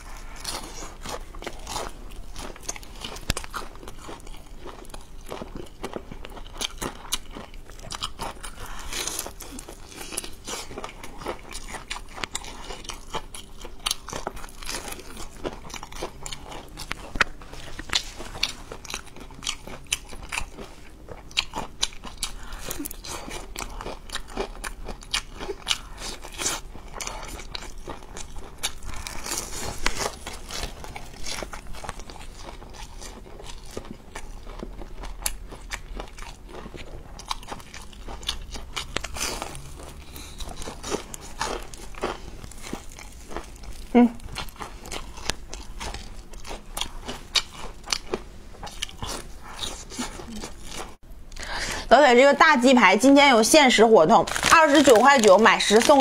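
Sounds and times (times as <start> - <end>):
crunching fried chicken: 0.0 - 51.0, 54.2 - 56.0.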